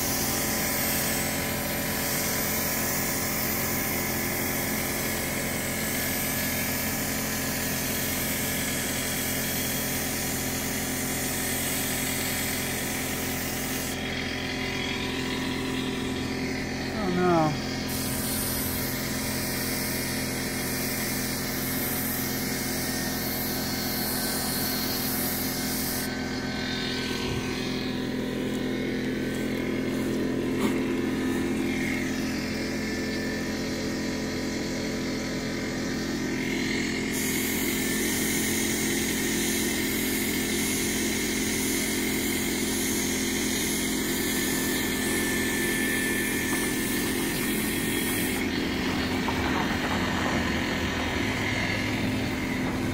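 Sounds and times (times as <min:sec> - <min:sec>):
paint spray gun hissing: 0:00.0 - 0:49.3
steady motor hum: 0:00.0 - 0:52.9.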